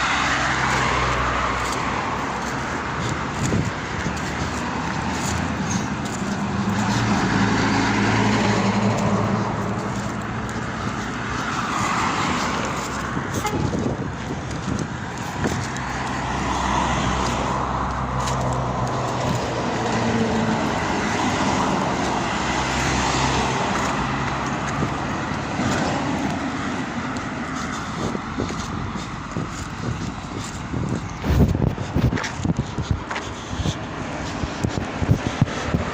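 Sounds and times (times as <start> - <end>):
vehicles passing: 0.0 - 35.9.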